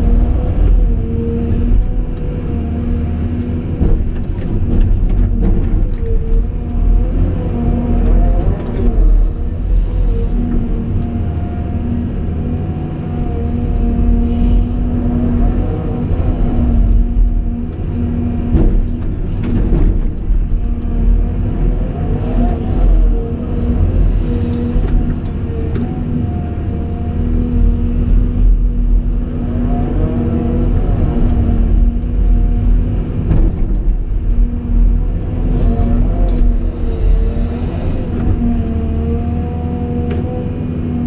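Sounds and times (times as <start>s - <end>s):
excavator diesel engine rumbling: 0.0s - 41.0s.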